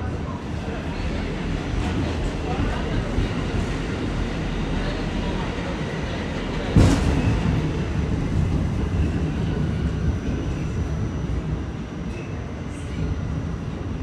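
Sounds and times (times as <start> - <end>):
rumble of wheels on rail: 0.0 - 14.0.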